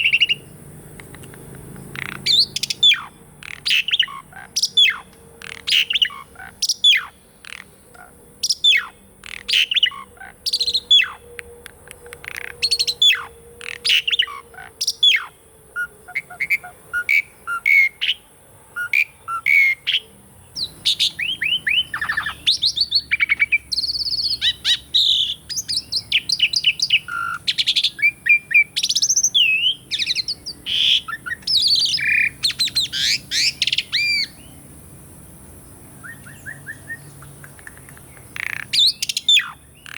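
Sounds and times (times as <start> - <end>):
bird whistled calls: 0.0 - 0.5, 2.0 - 7.7, 8.4 - 18.2, 18.8 - 34.5, 36.0 - 39.9
bird chattering and warbling: 0.0 - 34.6, 35.7 - 39.9.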